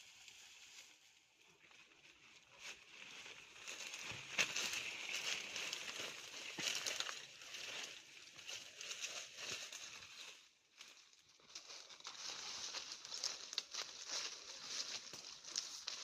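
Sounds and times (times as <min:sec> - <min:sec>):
crinkling and rustling with clicks: 0:01.4 - 0:16.0.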